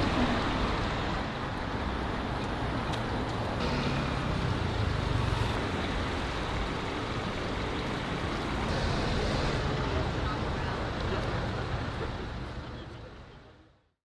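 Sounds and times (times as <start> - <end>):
passing cars rumbling: 0.0 - 13.6.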